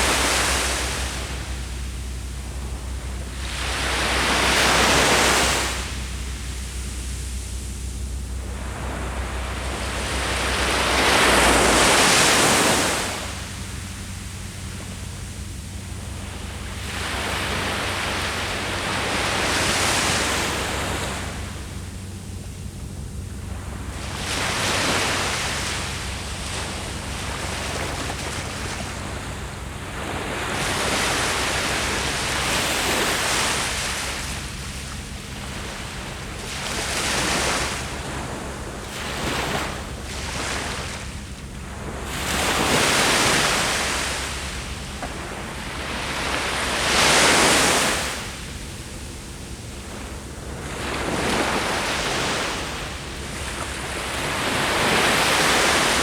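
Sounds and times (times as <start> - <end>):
low steady rumble: 0.0 - 56.0
sea waves breaking on shore: 0.0 - 56.0.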